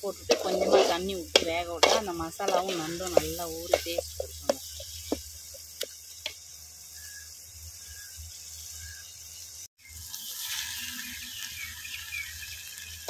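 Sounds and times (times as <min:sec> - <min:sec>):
masala sizzling in pot: 0:00.0 - 0:13.0.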